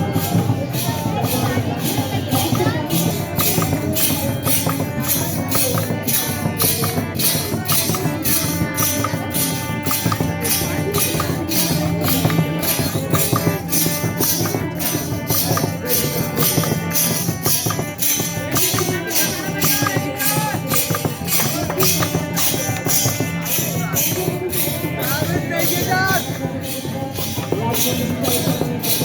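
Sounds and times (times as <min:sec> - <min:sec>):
jangling percussion beat: 0:00.0 - 0:29.0.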